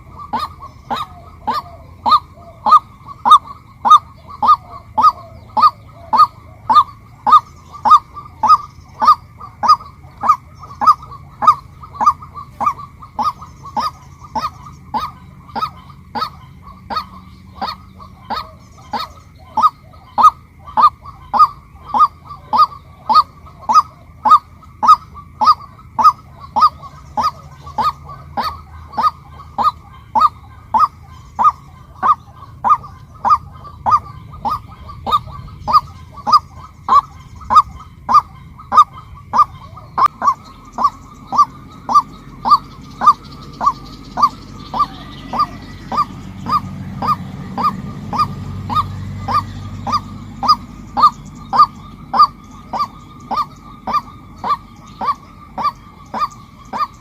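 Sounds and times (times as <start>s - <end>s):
bird calling sharp notes: 0.0s - 57.0s.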